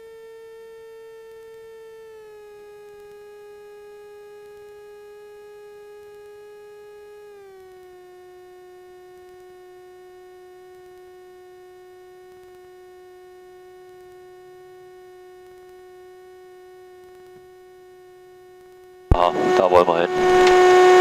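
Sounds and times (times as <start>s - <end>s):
steady electrical whine: 0.0s - 21.0s.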